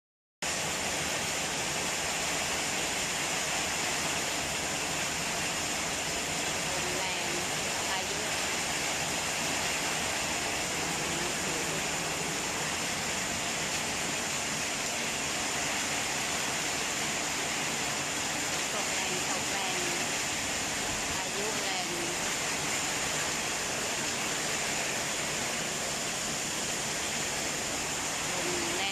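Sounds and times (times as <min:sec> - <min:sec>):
heavy rain falling: 0:00.4 - 0:28.9.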